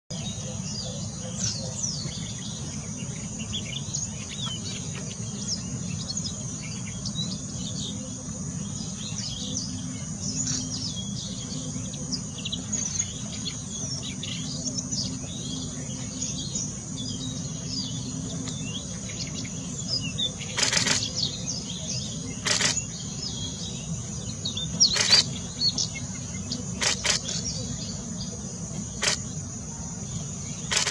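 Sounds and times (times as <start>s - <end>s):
high insect drone: 0.2s - 30.9s
bird singing high chirps: 0.8s - 29.3s.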